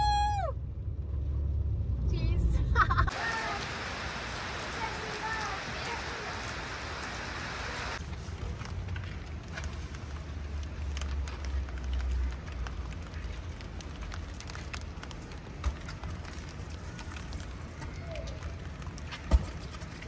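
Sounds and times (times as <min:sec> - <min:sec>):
road and engine rumble: 0:00.0 - 0:20.0
raindrops ticking on car: 0:03.1 - 0:20.0.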